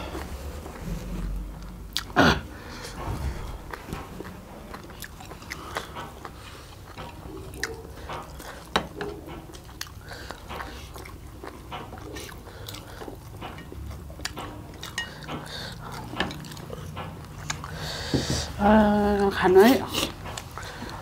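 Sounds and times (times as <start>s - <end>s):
chewing and mouth noises: 1.5s - 21.0s.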